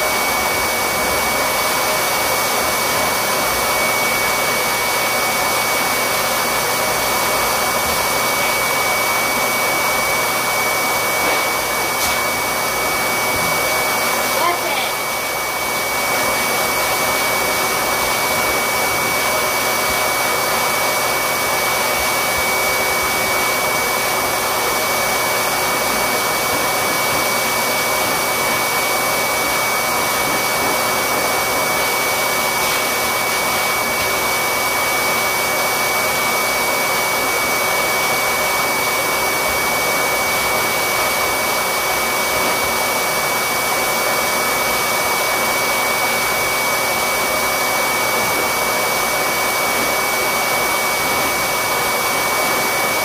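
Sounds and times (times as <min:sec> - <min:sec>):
electric blower running: 0:00.0 - 0:53.0.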